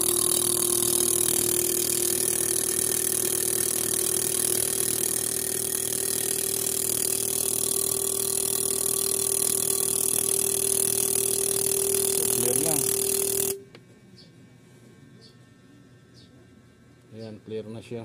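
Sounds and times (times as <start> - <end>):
machine hum with high whine: 0.0 - 18.0.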